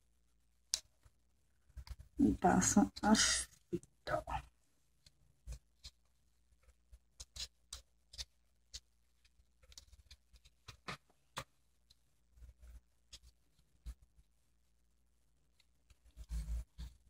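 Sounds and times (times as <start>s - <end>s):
ribbon rustling: 0.2s - 17.0s.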